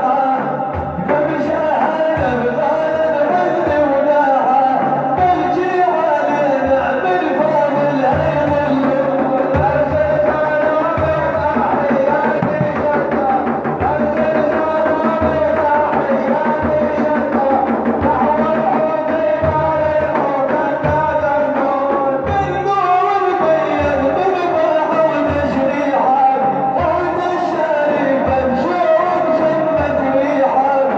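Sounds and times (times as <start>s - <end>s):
hand drum beat: 0.0s - 30.9s
person singing: 0.0s - 30.9s.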